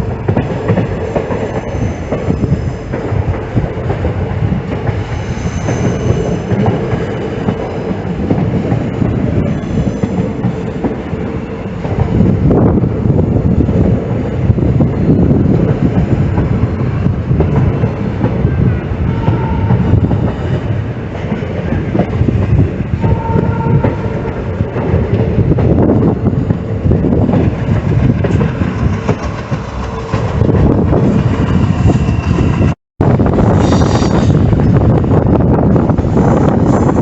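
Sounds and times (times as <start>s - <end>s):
train wheels clickety-clack: 0.0s - 37.0s.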